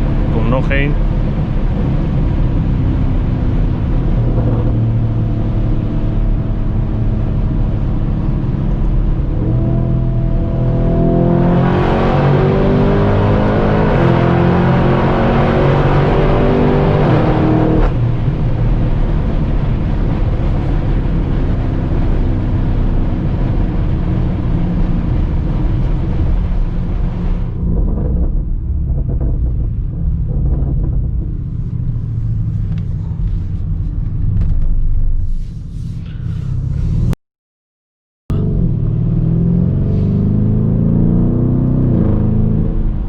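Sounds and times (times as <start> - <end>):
sports car accelerating hard: 0.0 - 33.7, 38.3 - 43.0.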